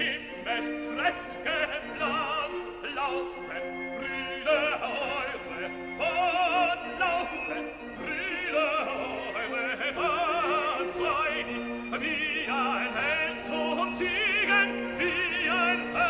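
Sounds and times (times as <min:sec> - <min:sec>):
operatic singing: 0:00.0 - 0:16.0.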